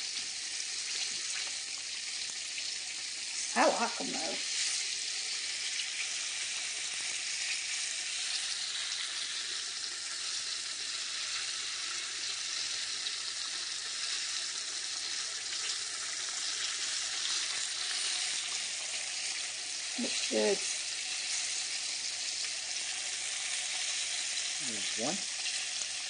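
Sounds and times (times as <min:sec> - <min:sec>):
fish frying in a pan: 0:00.0 - 0:26.0.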